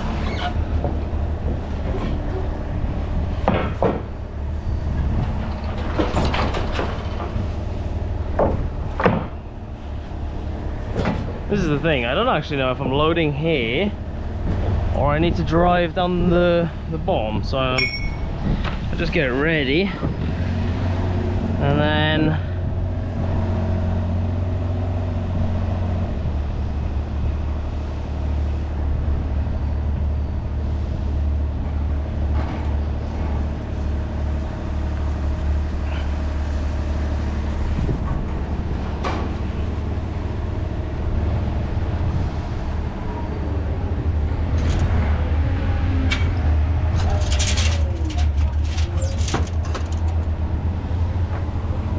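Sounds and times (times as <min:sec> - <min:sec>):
truck engine droning: 0:00.0 - 0:51.9.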